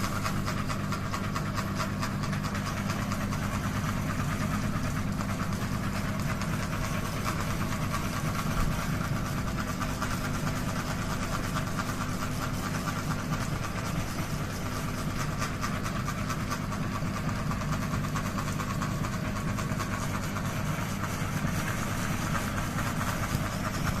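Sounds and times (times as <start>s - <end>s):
ceiling fan hum: 0.0s - 24.0s
fan rattling ticks: 0.0s - 24.0s.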